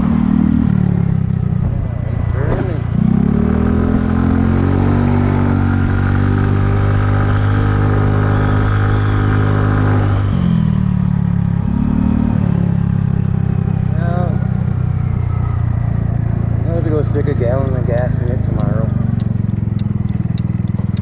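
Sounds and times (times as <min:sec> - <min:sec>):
scooter engine running: 0:00.0 - 0:21.0.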